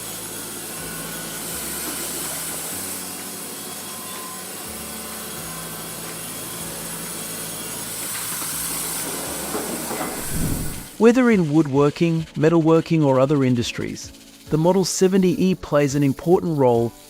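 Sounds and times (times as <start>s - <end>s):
saw cutting through wood: 0.0s - 17.0s.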